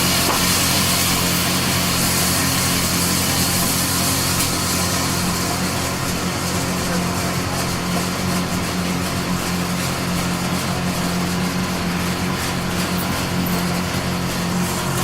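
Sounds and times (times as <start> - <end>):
wood-cutting saw running: 0.0 - 15.0.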